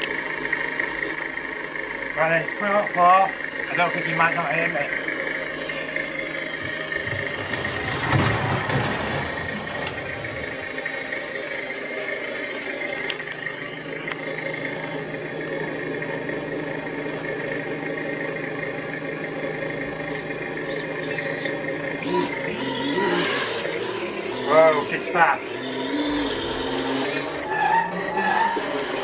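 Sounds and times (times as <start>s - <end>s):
toy truck mechanical running: 0.0s - 29.0s.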